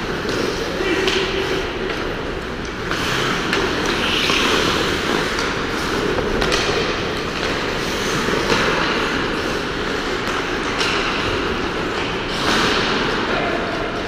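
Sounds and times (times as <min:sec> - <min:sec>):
skates scraping on ice: 0:00.0 - 0:13.2.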